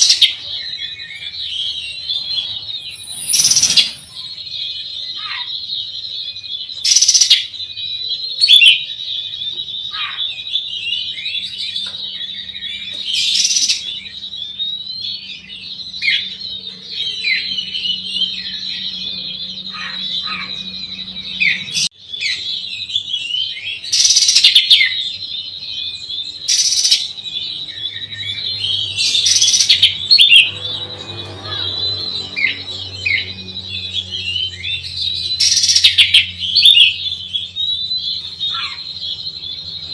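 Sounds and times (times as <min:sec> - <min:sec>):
magpie-robin chattering song: 0:00.0 - 0:05.5, 0:06.7 - 0:39.9.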